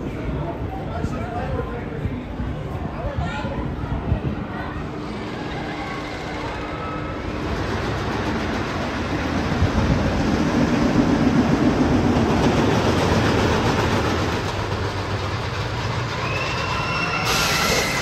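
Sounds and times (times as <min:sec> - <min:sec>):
roller coaster rumbling on wooden track: 0:00.0 - 0:18.0.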